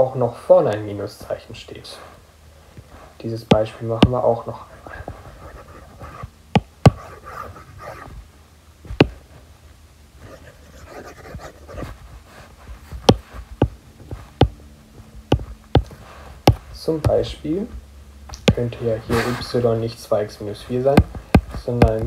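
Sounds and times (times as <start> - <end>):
soft rustling: 0.7 - 22.0.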